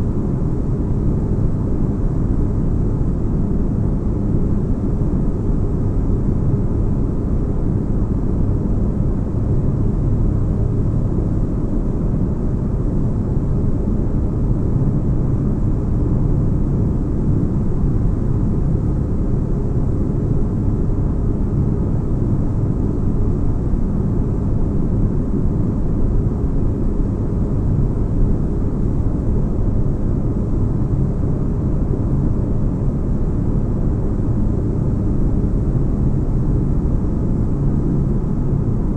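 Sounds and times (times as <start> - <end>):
faint hum: 0.0 - 38.9.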